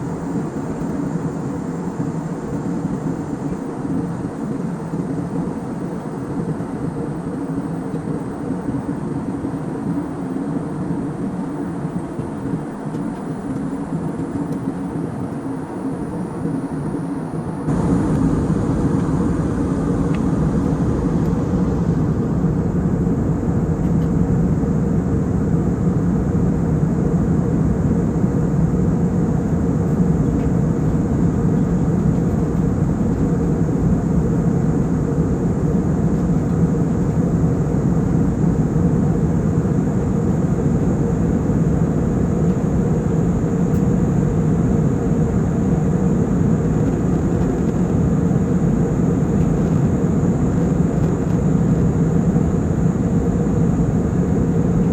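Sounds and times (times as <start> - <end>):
airliner engine drone: 0.0 - 54.9
constant low hum: 0.0 - 54.9.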